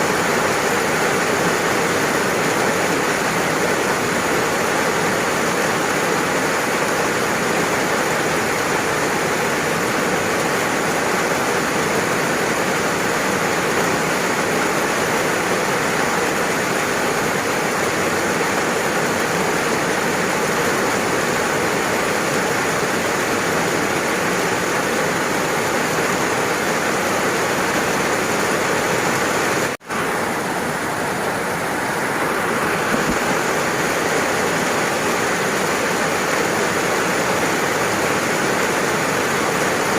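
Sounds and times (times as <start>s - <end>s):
dense rain hissing: 0.0s - 39.9s.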